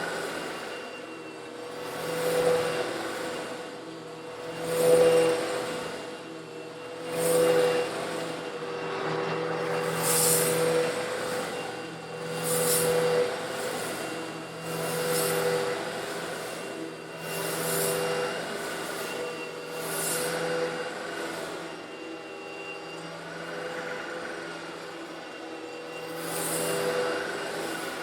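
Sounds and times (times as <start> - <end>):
vacuum cleaner motor humming: 0.0 - 28.0.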